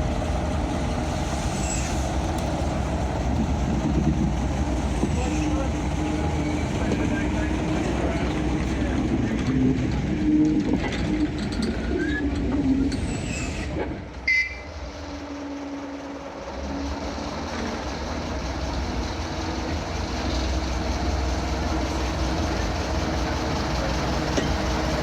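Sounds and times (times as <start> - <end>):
locomotive engine hum: 0.0 - 25.0.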